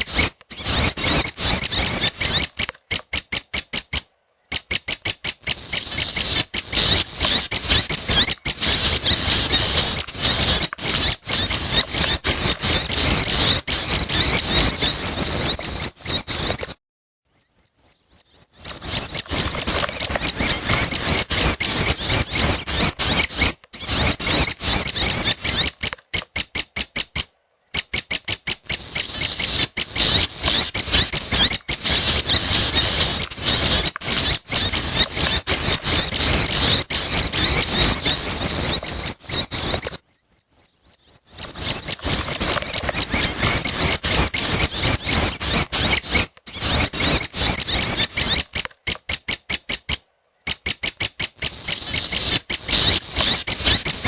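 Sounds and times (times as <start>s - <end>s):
chicks chattering: 0.0s - 16.8s, 17.4s - 54.0s
rapid ticking bird notes: 0.0s - 54.0s.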